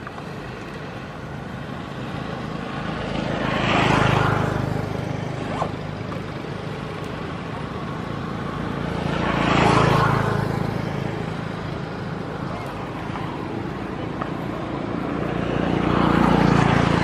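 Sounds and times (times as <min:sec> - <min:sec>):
low engine hum: 0:00.0 - 0:17.0
vehicles passing by: 0:00.0 - 0:17.0.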